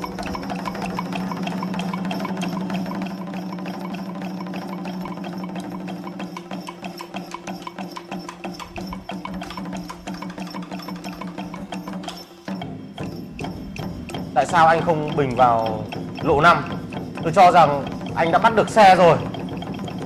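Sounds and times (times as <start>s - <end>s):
clicking percussion beat: 0.0s - 20.0s.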